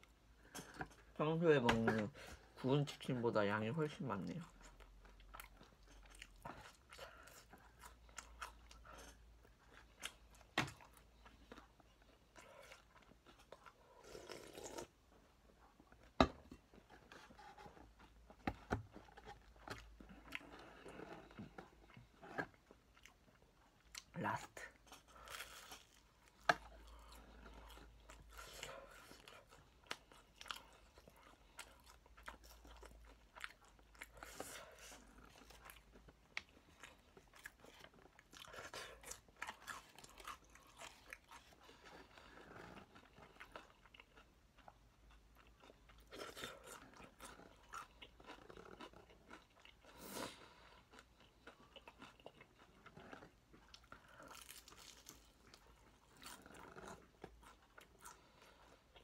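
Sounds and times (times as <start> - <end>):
chewing crispy fried chicken: 3.8 - 59.0.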